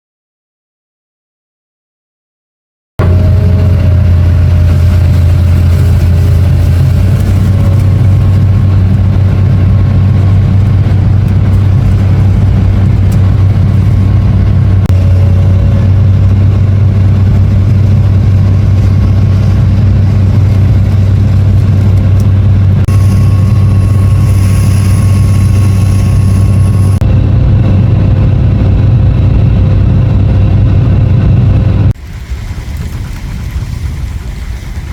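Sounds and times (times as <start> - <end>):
faint thin whine: 3.0 - 31.9
diesel engine droning: 3.0 - 34.9.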